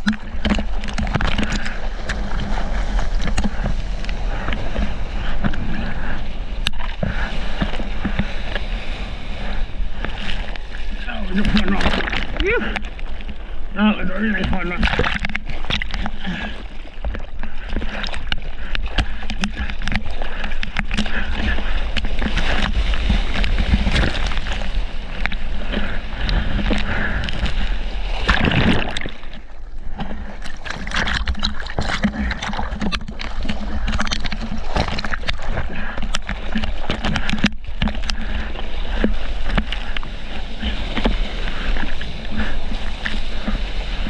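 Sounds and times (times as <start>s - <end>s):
hand-paddling splashes: 0.0s - 44.0s
seawater sloshing: 0.0s - 44.0s.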